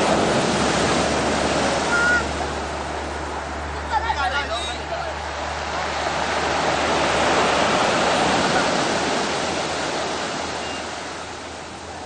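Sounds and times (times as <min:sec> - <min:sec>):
ocean wave rushing in: 0:00.0 - 0:12.0.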